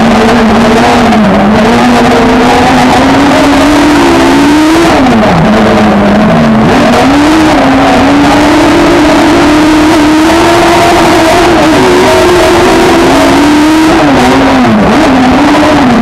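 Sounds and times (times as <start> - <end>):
racing car engine revving: 0.0 - 16.0
steady rush of noise: 0.0 - 16.0.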